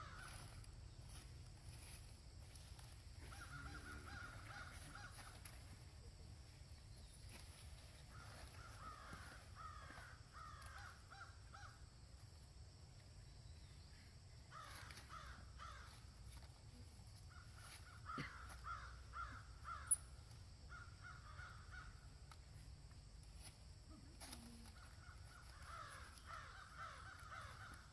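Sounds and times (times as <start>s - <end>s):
faint repeated animal calls: 0.0s - 6.5s, 7.3s - 12.4s, 13.6s - 22.6s, 23.4s - 27.9s.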